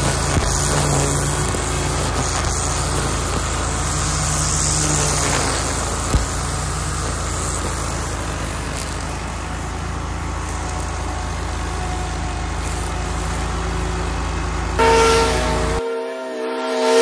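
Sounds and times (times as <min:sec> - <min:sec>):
string trimmer cutting grass: 0:00.0 - 0:15.8.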